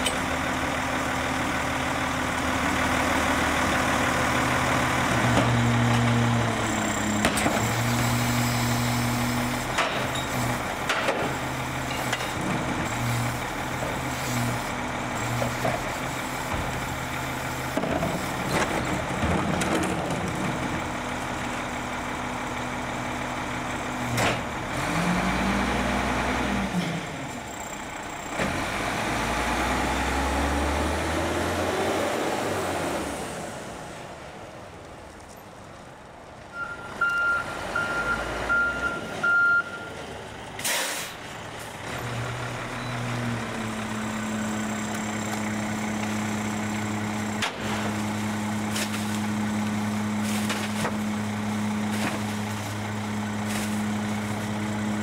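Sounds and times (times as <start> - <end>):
garbage truck engine running: 0.0 - 34.0, 37.6 - 55.0.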